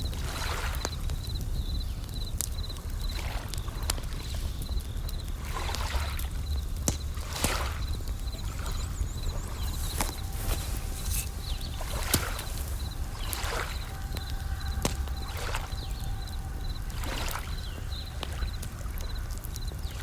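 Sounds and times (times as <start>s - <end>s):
campfire crackling: 0.0s - 20.0s
crickets chirping: 0.0s - 20.0s.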